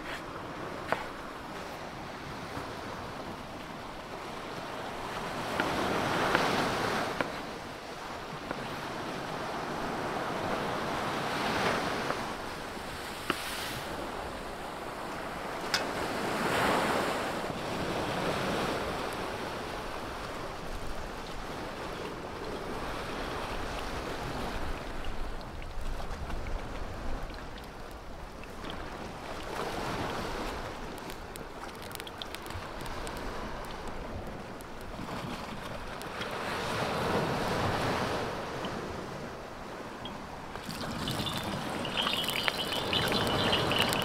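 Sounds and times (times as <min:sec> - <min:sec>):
waves breaking on pebbly shore: 0:00.0 - 0:25.2, 0:25.8 - 0:44.0.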